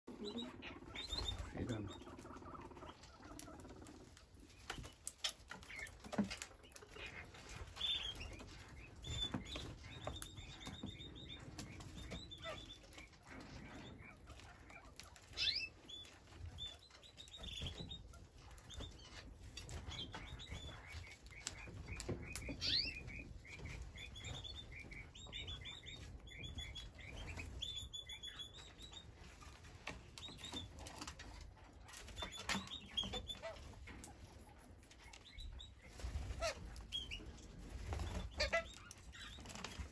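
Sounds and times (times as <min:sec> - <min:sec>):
parakeets chirping: 0:00.1 - 0:29.6, 0:34.6 - 0:39.9.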